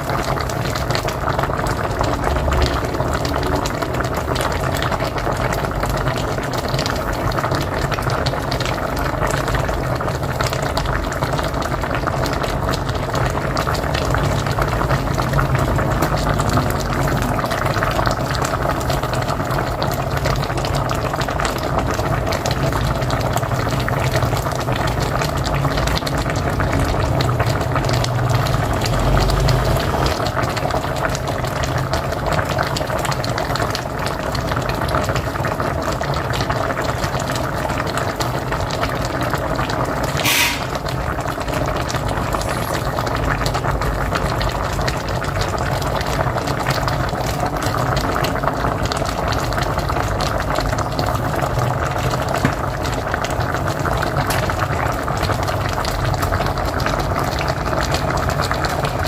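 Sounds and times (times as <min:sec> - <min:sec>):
pot boiling with bubbling pops: 0:00.0 - 0:59.0.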